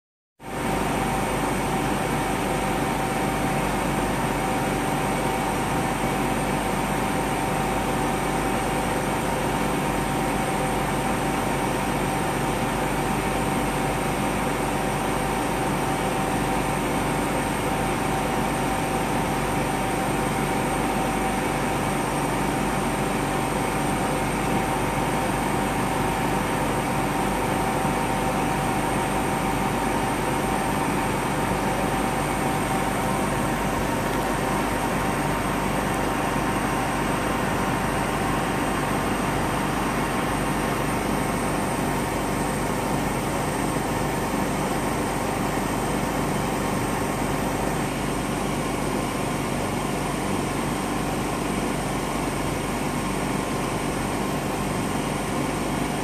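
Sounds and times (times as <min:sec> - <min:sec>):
laser cutter humming and whining: 0:00.4 - 0:56.0.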